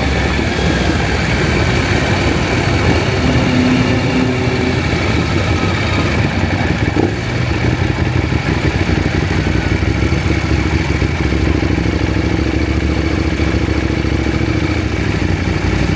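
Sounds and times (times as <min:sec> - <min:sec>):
motorcycle engine idling: 0:00.0 - 0:15.9.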